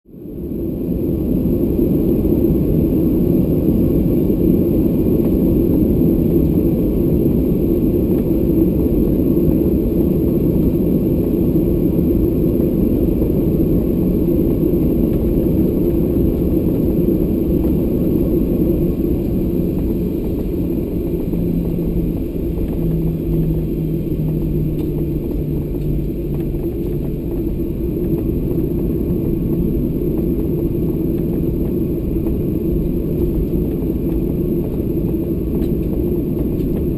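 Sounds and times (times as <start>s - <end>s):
jet engine rumble: 0.1s - 36.9s.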